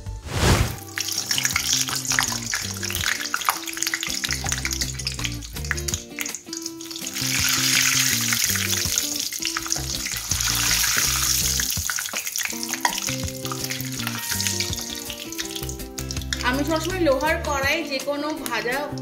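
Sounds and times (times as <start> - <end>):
metal spoon moving in oil: 0.3 - 16.9
batter sizzling in hot oil: 0.6 - 19.0.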